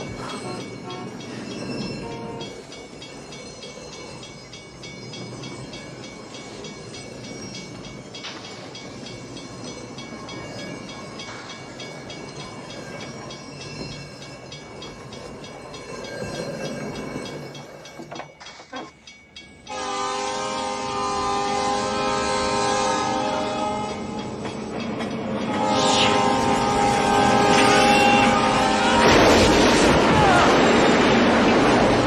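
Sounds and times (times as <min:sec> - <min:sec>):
train rumbling along rails: 0:00.0 - 0:32.0.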